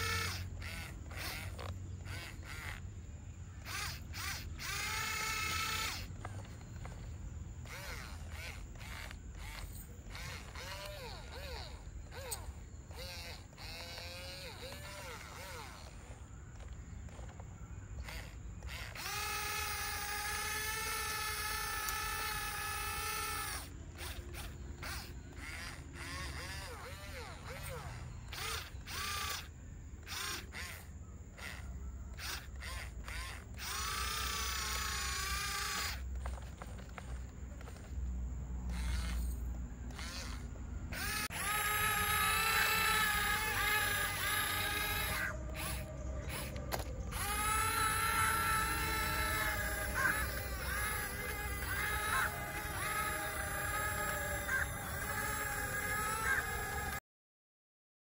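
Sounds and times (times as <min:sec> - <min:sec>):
small electric motor whining: 0:00.0 - 0:57.0.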